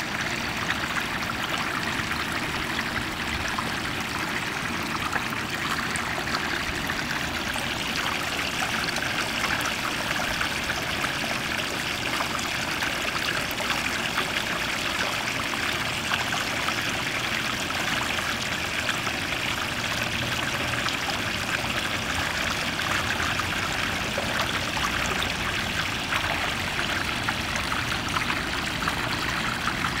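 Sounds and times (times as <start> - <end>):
water splashing into pond: 0.0 - 30.0.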